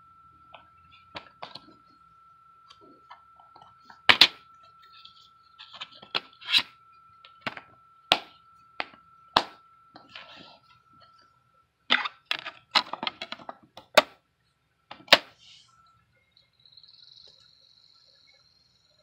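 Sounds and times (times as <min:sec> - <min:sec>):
faint steady high tone: 0:00.0 - 0:19.0.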